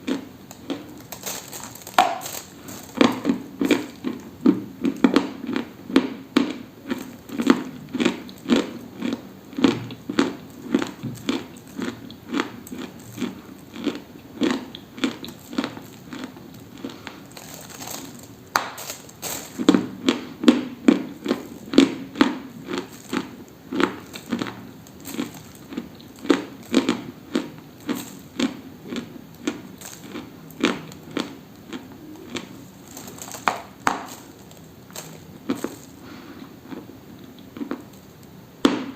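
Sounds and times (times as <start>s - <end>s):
dry brittle crunching: 0.1s - 5.6s, 6.8s - 20.2s, 21.1s - 38.2s.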